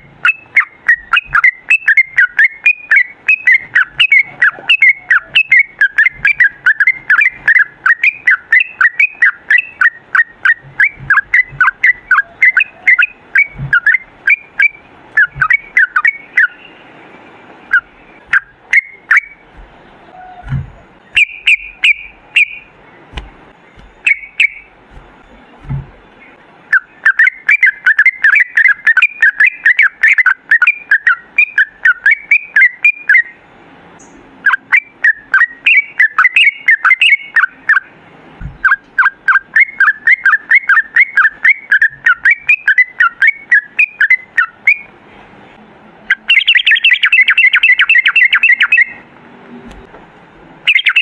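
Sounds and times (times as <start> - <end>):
bird singing bubbling chirps: 0.0 - 17.0, 17.6 - 24.8, 25.4 - 33.4, 34.0 - 37.9, 38.6 - 44.9, 46.1 - 49.0, 50.7 - 51.0.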